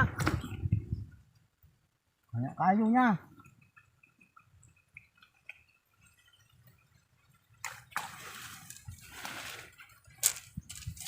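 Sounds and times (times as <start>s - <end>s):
water splashing in stream: 0.0s - 1.3s, 3.2s - 11.0s.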